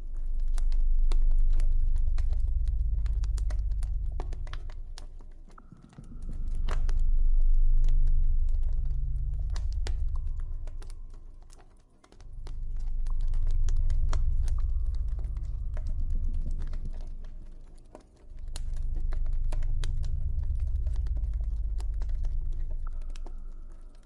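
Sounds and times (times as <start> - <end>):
deep ambient drone: 0.0 - 24.0.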